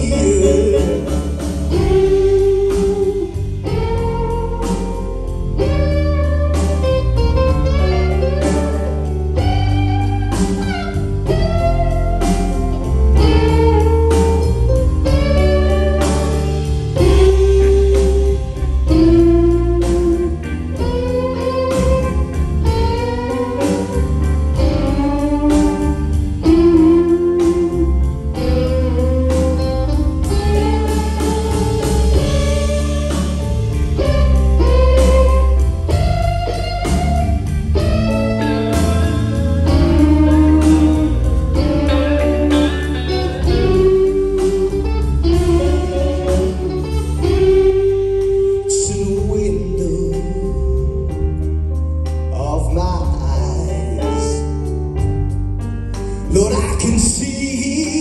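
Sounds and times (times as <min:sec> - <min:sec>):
bass guitar: 0:00.0 - 0:58.0
drums: 0:00.0 - 0:58.0
electric guitar lead: 0:00.0 - 0:58.0.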